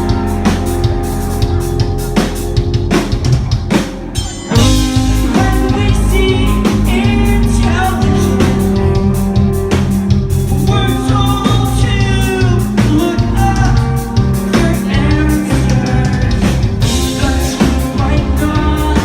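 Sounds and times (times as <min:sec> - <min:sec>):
live rock band playing: 0:00.0 - 0:19.0
pounding drums: 0:00.0 - 0:19.0.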